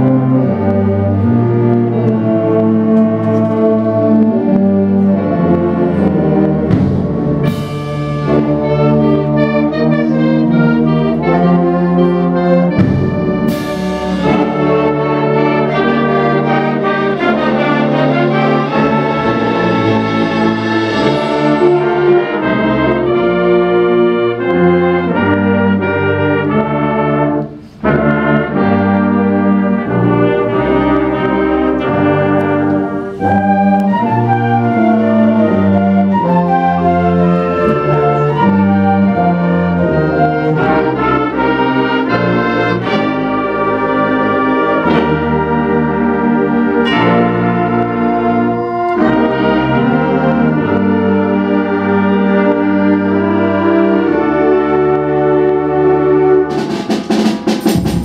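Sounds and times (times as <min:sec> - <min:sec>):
concert band playing: 0:00.0 - 0:58.0.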